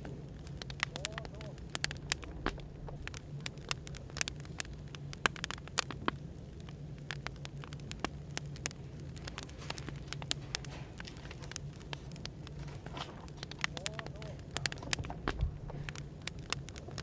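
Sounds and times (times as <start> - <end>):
firewood crackling and popping: 0.0 - 17.0
low hum of white noise: 0.0 - 17.0.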